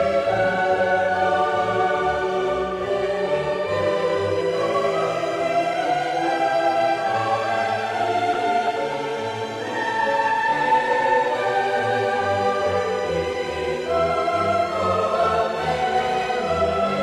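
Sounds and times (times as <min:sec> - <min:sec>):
choir singing: 0:00.0 - 0:17.0
orchestral accompaniment: 0:00.0 - 0:17.0.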